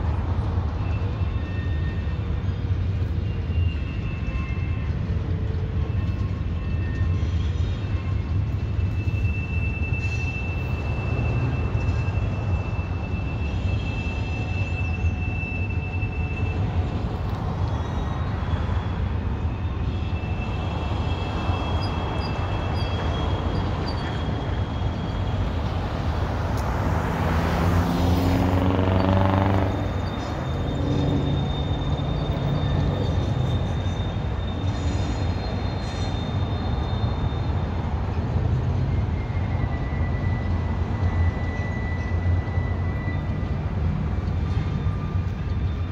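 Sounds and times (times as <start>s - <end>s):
high wheel squeals: 0.0s - 45.9s
train wheels rumbling on rail: 0.0s - 45.9s.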